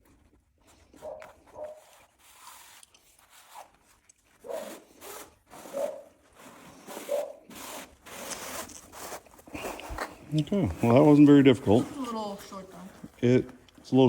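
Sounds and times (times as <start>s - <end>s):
rod rubbing against cloth: 0.6s - 13.3s.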